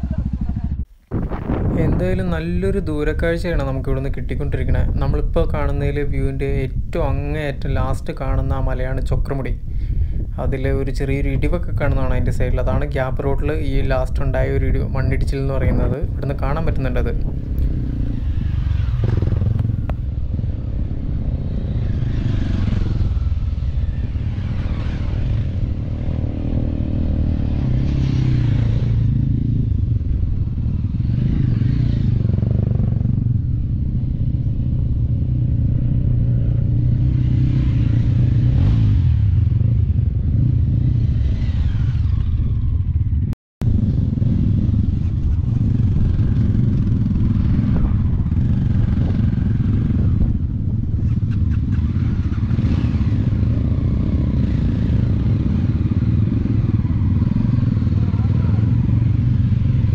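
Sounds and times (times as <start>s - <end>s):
motorcycle engine running steadily: 0.0s - 41.1s, 42.2s - 59.9s.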